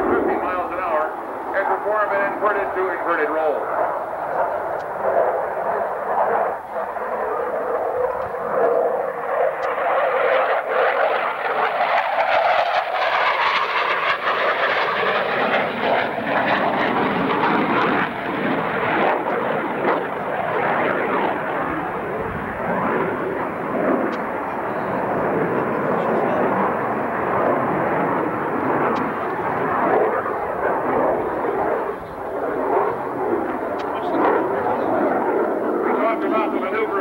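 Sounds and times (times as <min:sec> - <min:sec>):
fighter jet passing: 0:00.0 - 0:37.0.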